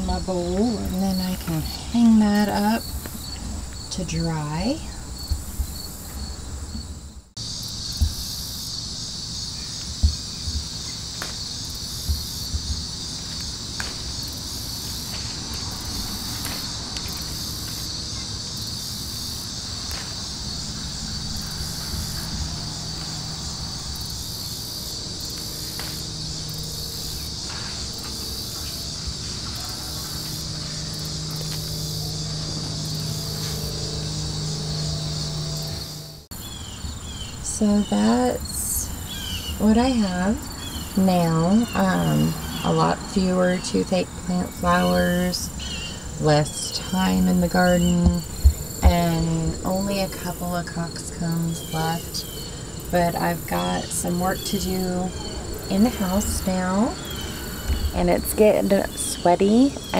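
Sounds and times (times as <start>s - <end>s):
low steady hum: 0.0s - 5.6s, 8.9s - 36.4s, 37.0s - 59.9s
insects trilling: 0.0s - 59.9s.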